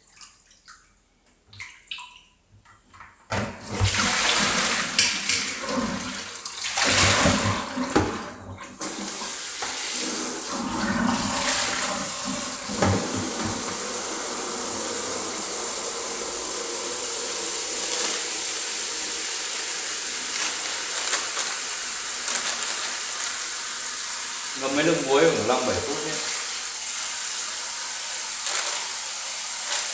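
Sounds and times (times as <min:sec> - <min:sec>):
tap water running into basin: 0:02.9 - 0:29.9.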